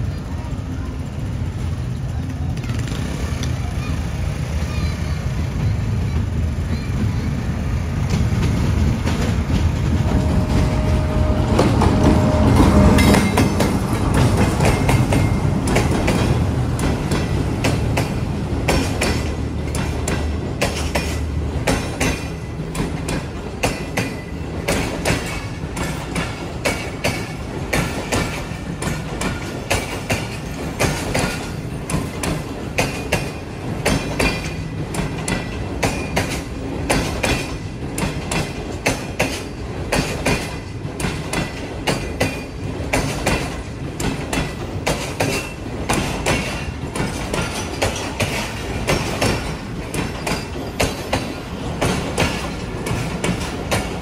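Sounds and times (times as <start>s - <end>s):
diesel locomotive rumble: 0.0s - 54.0s
train wheels clickety-clack: 0.0s - 54.0s.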